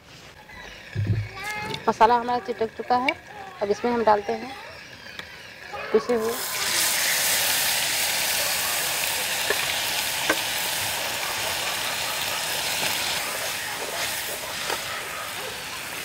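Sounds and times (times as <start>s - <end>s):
paste sizzling in hot oil: 1.3s - 16.0s.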